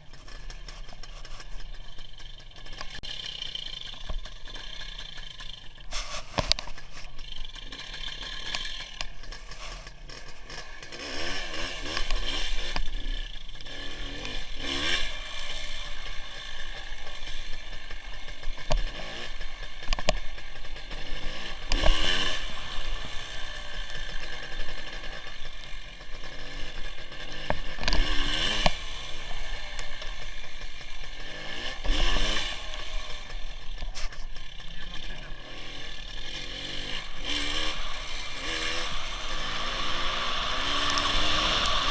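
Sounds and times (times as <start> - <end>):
two-stroke motorcycle engine: 0.0 - 41.9.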